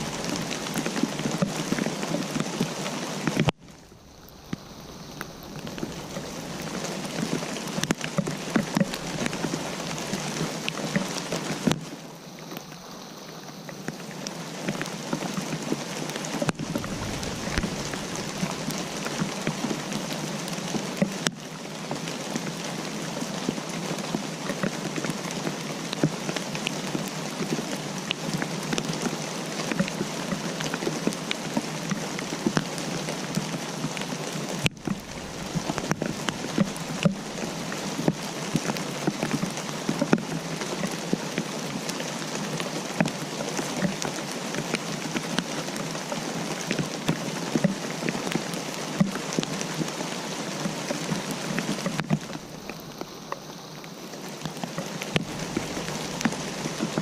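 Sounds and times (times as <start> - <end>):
raindrops pattering: 0.0 - 57.0
steady rainfall: 0.0 - 57.0.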